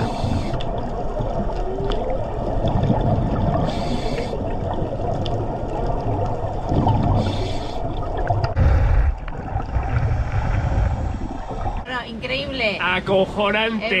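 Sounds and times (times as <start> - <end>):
low underwater rumble: 0.0 - 11.9.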